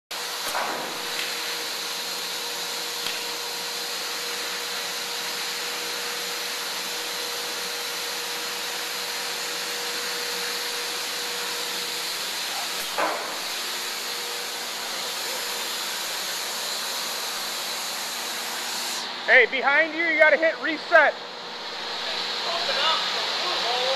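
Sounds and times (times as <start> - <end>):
machinery hum and hiss: 0.2 - 23.9.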